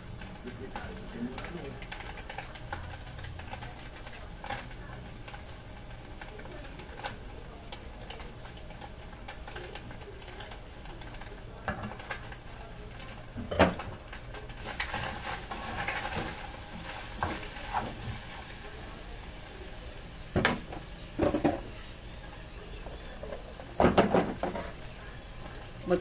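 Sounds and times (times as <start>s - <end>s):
sauce sizzling in a pan: 0.0s - 26.0s.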